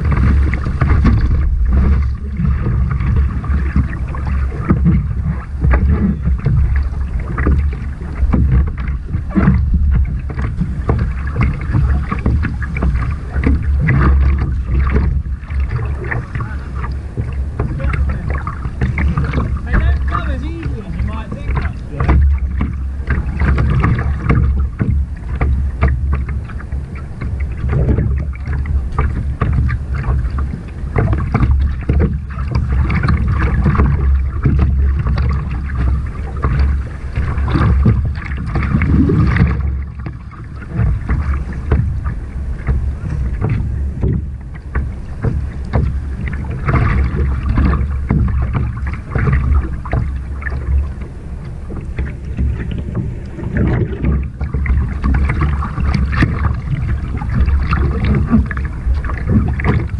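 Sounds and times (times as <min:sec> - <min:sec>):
kayak paddle splashing: 0:00.0 - 0:59.9
water slapping against hull: 0:00.0 - 0:59.9
wind rumble on microphone: 0:00.0 - 0:59.9.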